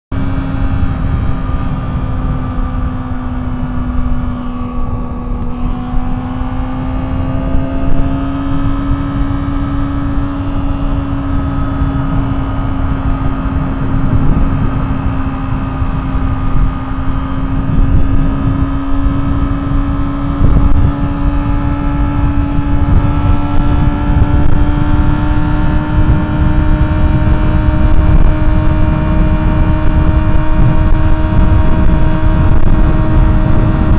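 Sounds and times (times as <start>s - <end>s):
motorcycle engine at high rpm: 0.1s - 33.9s
wind rush on microphone: 0.1s - 33.9s.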